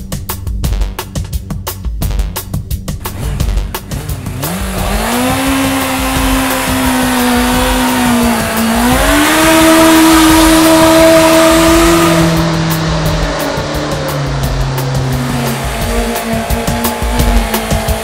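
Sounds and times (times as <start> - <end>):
motorcycle engine revving: 2.4 - 18.0.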